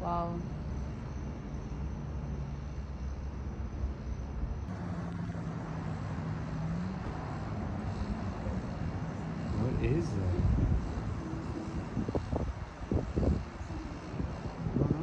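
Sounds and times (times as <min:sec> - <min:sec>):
low hum: 0:00.0 - 0:15.0
vehicle rumble: 0:00.0 - 0:15.0.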